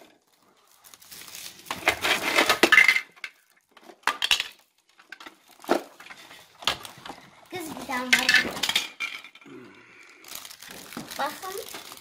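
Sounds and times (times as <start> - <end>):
plastic toy pieces clattering: 1.1 - 9.6, 10.3 - 12.0.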